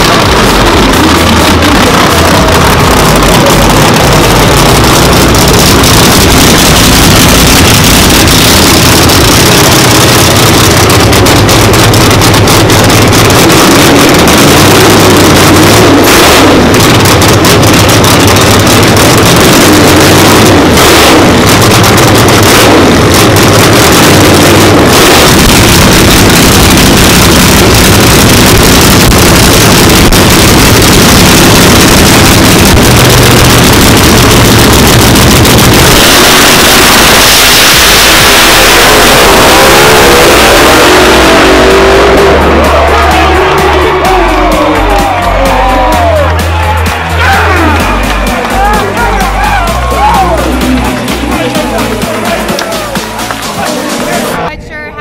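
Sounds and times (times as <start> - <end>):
race car engine rumbling: 0.0 - 55.0.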